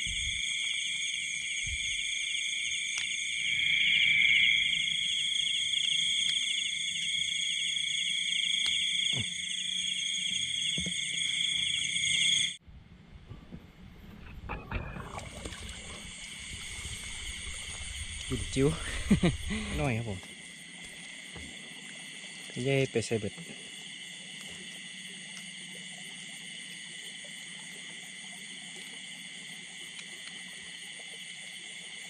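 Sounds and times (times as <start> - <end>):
night insects trilling: 0.0 - 12.6, 14.8 - 32.0.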